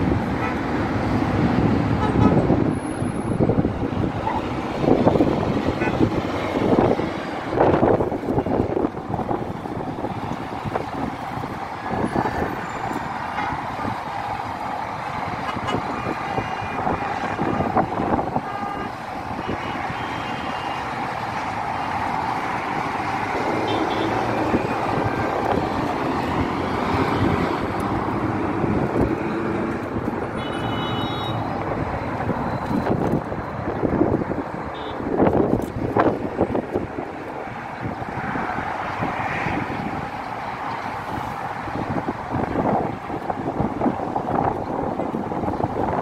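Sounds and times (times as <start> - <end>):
road traffic: 0.0 - 46.0
wind gusting on microphone: 0.0 - 46.0.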